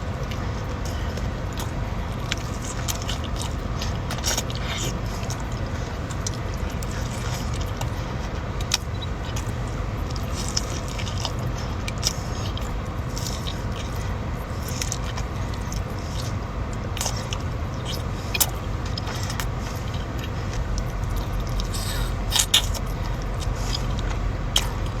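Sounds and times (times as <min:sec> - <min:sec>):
person chewing food: 0:00.0 - 0:25.0
steady low rumble: 0:00.0 - 0:25.0.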